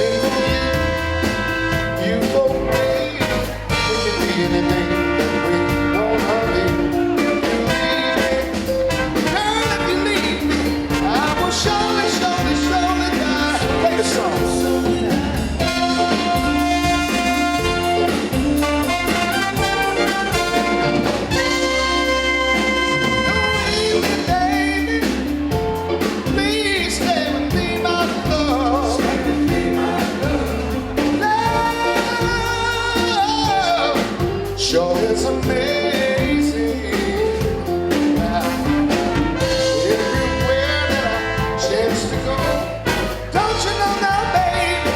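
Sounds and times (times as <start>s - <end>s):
soul band music: 0.0s - 44.9s.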